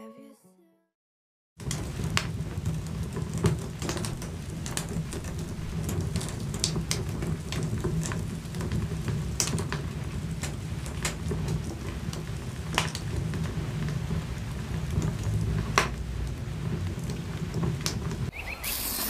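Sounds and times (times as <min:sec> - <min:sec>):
logs crackling and popping: 0:01.6 - 0:18.4
low rumble of flames: 0:01.6 - 0:18.4.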